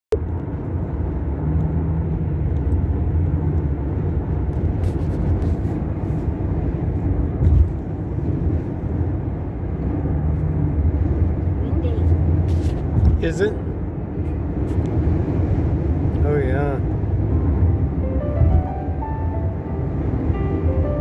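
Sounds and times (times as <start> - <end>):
car interior road rumble: 0.1 - 21.0.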